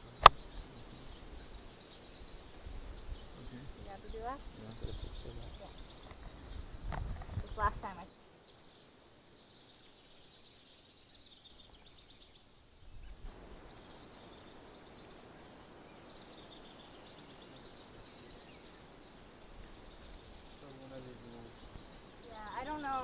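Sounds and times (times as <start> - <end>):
bird chirping: 0.0 - 23.0
low outdoor hiss: 0.0 - 23.0.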